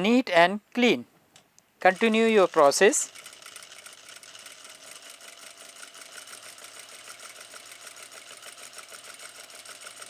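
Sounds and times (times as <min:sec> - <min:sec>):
sewing machine clattering: 0:01.8 - 0:10.0.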